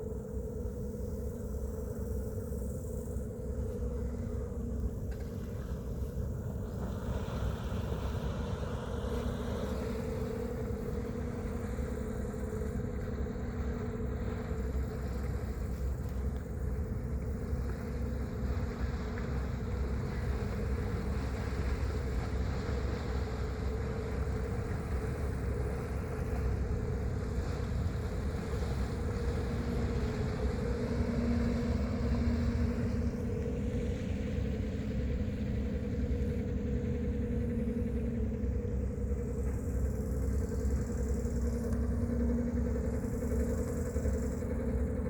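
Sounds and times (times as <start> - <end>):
ship engine rumbling: 0.0 - 45.0.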